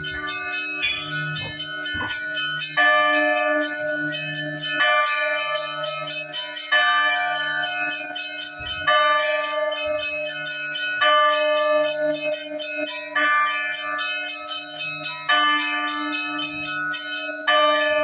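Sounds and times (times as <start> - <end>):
bells ringing: 0.0 - 18.0.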